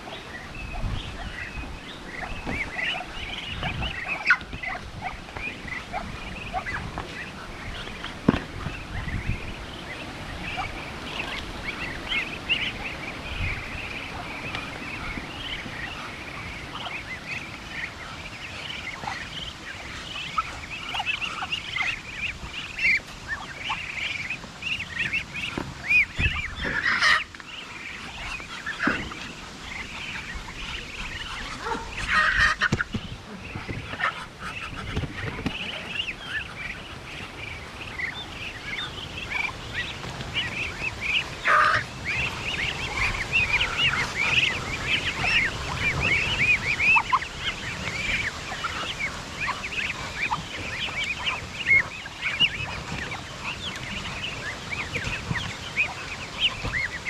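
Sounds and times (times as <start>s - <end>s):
ducks and poultry calling: 0.0s - 57.0s.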